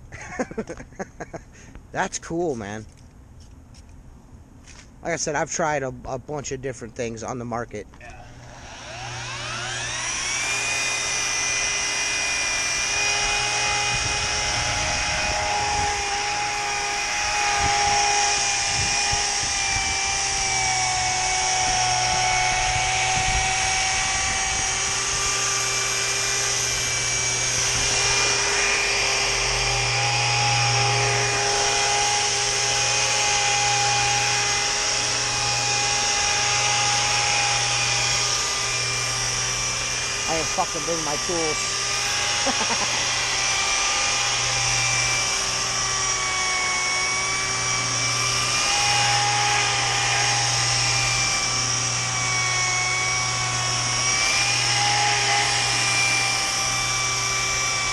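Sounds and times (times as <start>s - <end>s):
rotary polisher whining: 7.9s - 57.9s.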